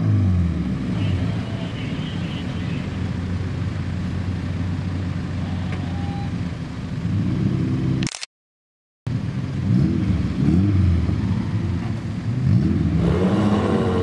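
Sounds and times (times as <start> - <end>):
car engines idling and revving: 0.0 - 8.1, 9.1 - 14.0.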